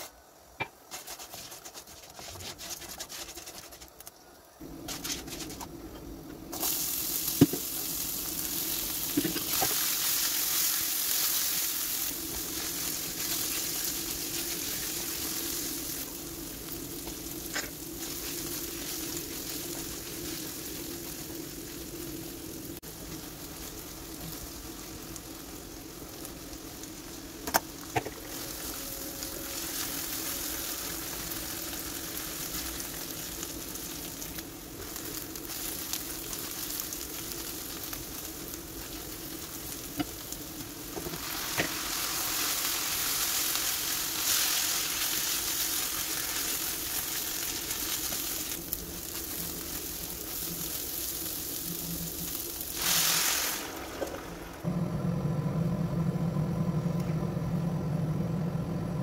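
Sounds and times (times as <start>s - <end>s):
vegetables sizzling in oil: 4.6s - 54.7s.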